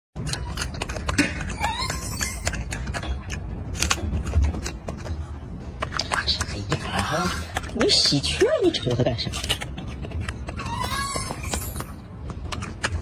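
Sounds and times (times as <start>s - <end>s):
monkey crunching an apple: 0.2s - 13.0s.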